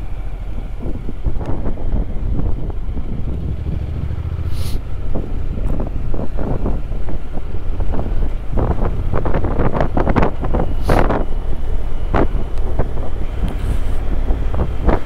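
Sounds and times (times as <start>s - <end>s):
motorcycle low rumble: 0.0s - 15.0s
wind buffeting microphone: 0.6s - 15.0s.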